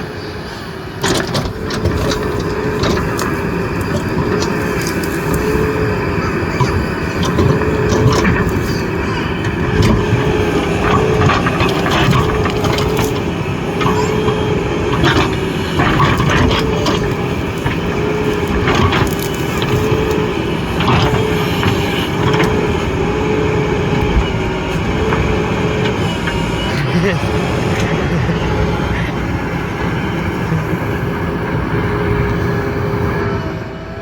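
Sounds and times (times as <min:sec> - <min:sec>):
diesel engine running: 0:00.0 - 0:34.0
soil cracking and crunching: 0:01.0 - 0:32.9.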